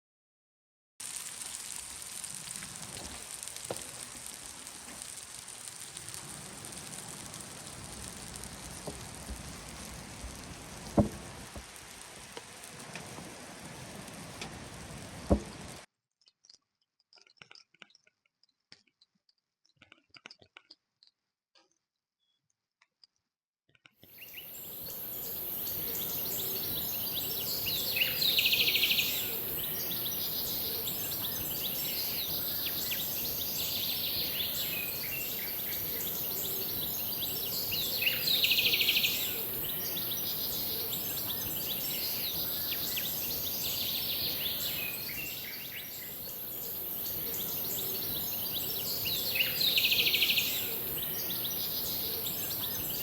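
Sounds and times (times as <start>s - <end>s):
steady high hiss: 1.0s - 15.9s, 24.2s - 53.0s
birds chirping: 1.2s - 15.8s, 24.1s - 53.0s.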